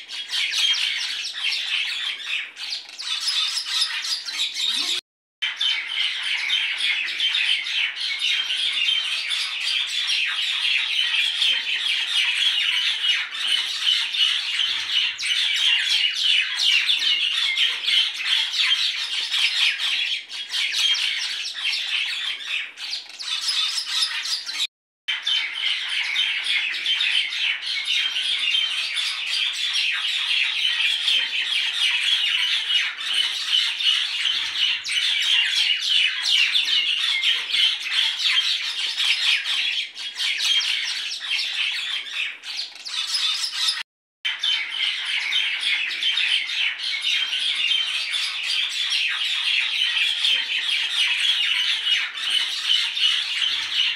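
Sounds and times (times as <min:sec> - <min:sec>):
flock of birds chirping: 0:00.0 - 0:53.9.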